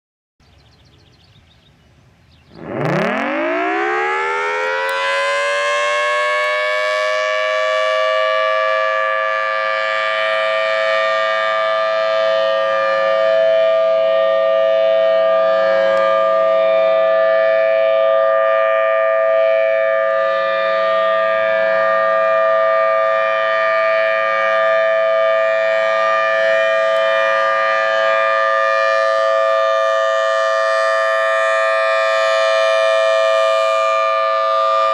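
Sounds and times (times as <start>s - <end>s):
tornado siren: 2.5s - 34.9s.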